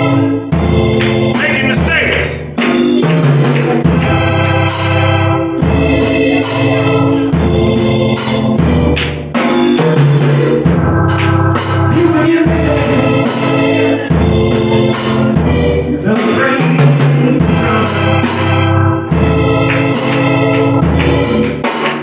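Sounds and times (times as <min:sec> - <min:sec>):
low bass line: 0:00.0 - 0:09.0, 0:10.4 - 0:21.6
church band playing: 0:00.0 - 0:22.0
drums and cymbals beat: 0:00.0 - 0:22.0
sustained organ chords: 0:00.0 - 0:22.0.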